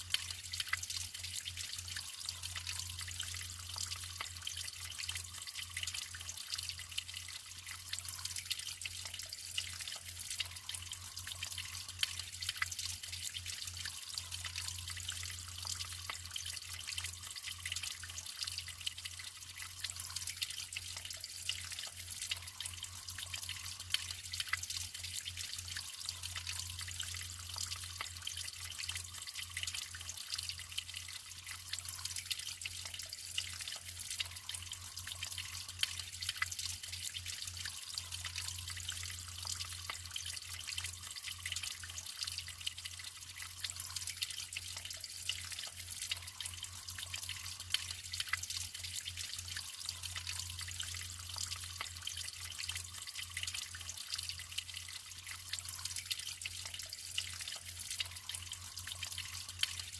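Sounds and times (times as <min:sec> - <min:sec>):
water trickling and splashing: 0:00.0 - 0:59.9.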